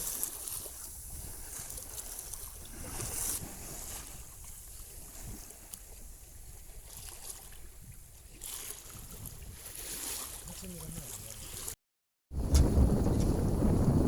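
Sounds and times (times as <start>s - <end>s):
hiss of wind and water: 0.0s - 11.8s
wind buffeting microphone: 0.1s - 11.7s, 12.3s - 14.0s.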